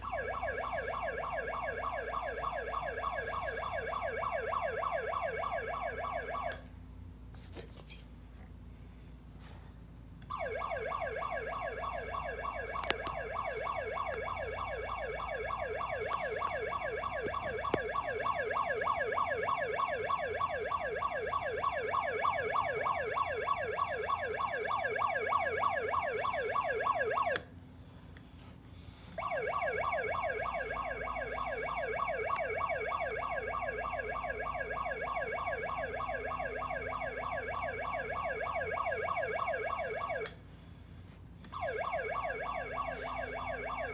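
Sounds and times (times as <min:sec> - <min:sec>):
siren-like alarm tone sweeping: 0:00.0 - 0:06.5, 0:10.3 - 0:27.4, 0:29.2 - 0:40.3, 0:41.6 - 0:43.9.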